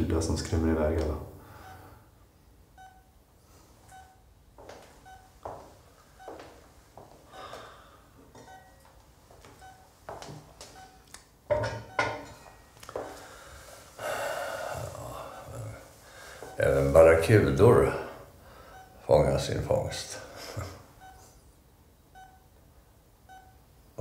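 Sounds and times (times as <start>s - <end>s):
patient monitor beeping: 0.0s - 6.7s, 7.4s - 13.3s, 14.0s - 24.0s.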